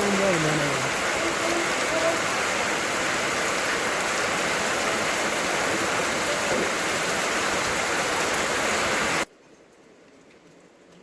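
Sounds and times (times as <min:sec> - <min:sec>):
heavy rain hissing: 0:00.0 - 0:09.3.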